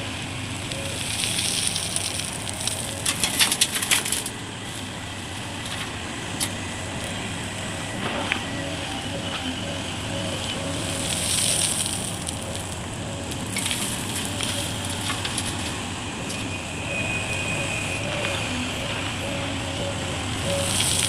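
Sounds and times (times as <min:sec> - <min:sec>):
excavator crunching: 0:00.0 - 0:21.0.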